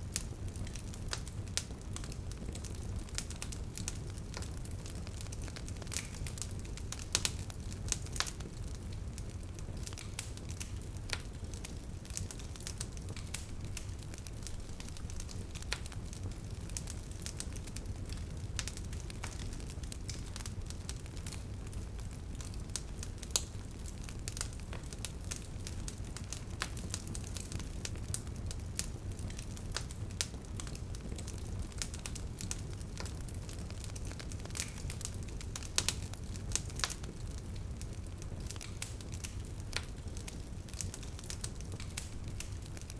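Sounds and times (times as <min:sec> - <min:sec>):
fire popping and snapping: 0:00.0 - 0:42.9
wood fire crackling: 0:00.0 - 0:42.9.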